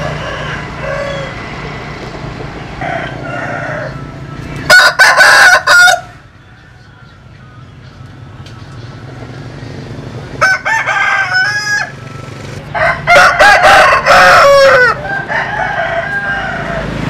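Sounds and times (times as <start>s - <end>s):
roosters crowing: 0.0s - 7.8s, 9.2s - 17.0s.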